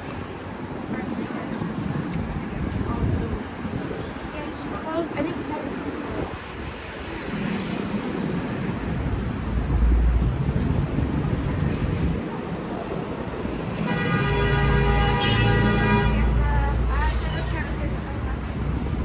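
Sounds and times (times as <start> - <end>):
city street traffic rumbling: 0.0 - 19.0
wind buffeting microphone: 0.0 - 19.0.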